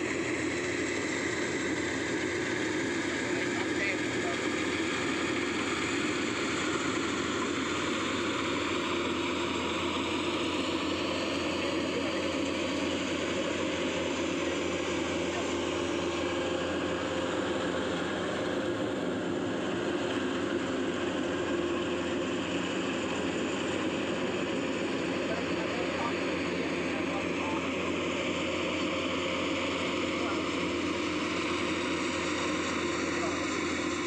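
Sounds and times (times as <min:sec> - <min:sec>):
combine harvester engine droning: 0:00.0 - 0:34.0.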